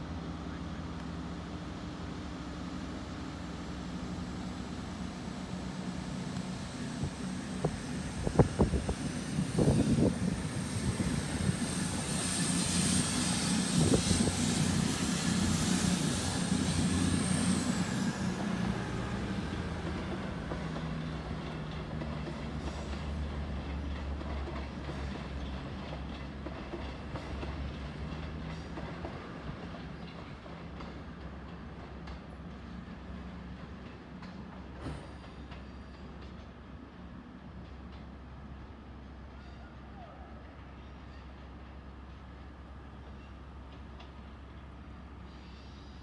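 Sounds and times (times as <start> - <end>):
train diesel engines droning: 0.0 - 46.0.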